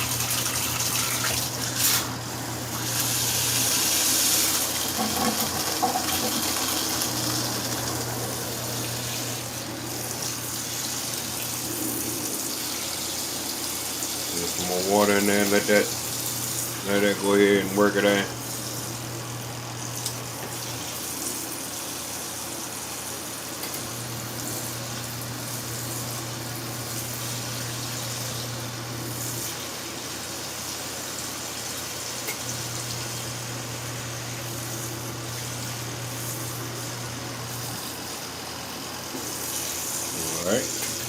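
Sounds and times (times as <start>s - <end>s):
washing machine motor hum: 0.0s - 41.0s.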